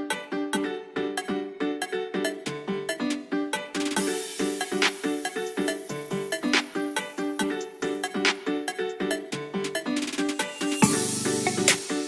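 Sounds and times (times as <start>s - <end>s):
bright plucked notes music: 0.0s - 12.0s.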